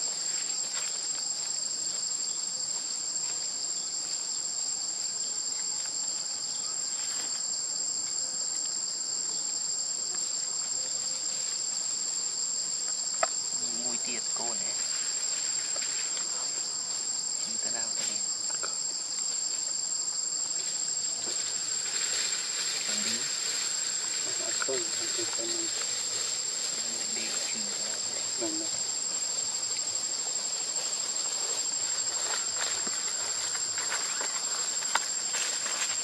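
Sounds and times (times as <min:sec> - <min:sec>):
insect chorus drone: 0:00.0 - 0:36.0.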